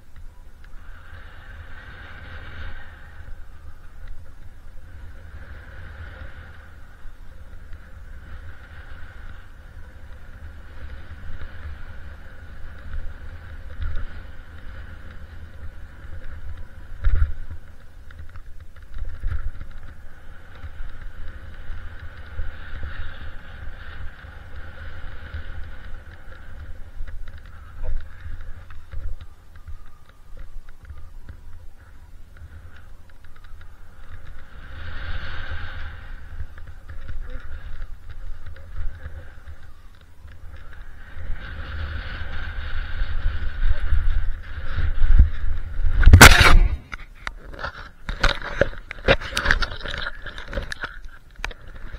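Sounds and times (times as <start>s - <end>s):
skis sliding over snow: 0.0s - 51.9s
wind rumbling on microphone: 0.0s - 51.9s.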